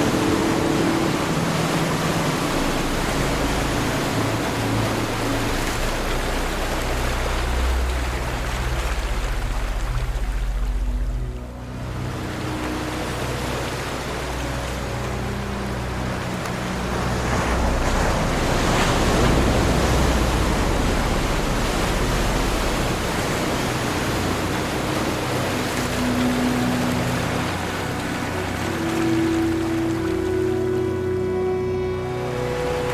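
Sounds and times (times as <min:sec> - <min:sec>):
ocean waves washing on shore: 0:00.0 - 0:32.9.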